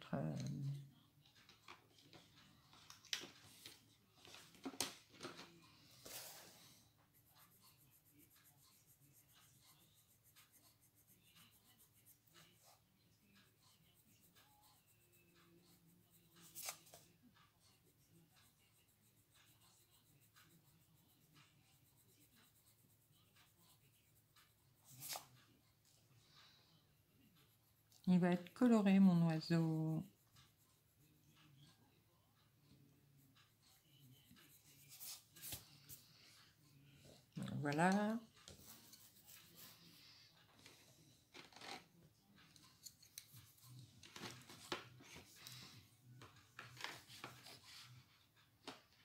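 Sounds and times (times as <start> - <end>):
pencil scratching on paper: 1.4 - 49.0.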